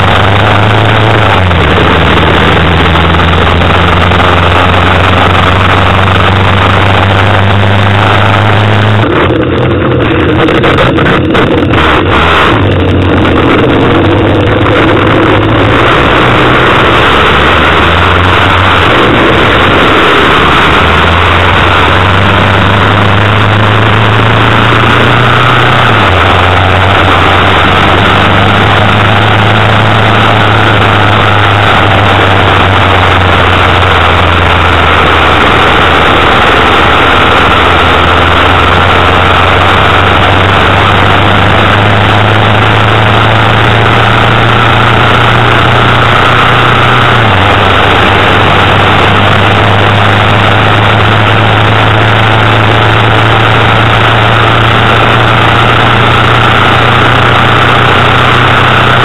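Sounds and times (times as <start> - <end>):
car engine and exhaust drone: 0.0 - 59.0.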